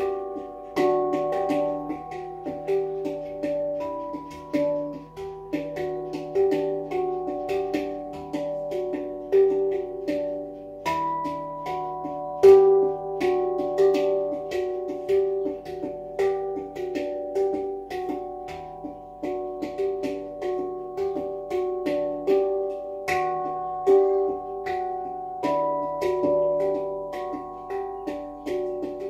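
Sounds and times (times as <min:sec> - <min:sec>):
handpan notes ringing: 0:00.0 - 0:29.0.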